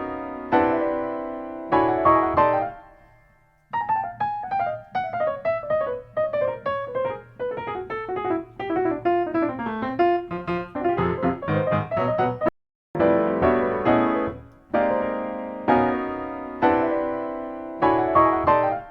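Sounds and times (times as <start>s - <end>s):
piano music: 0.0s - 18.9s.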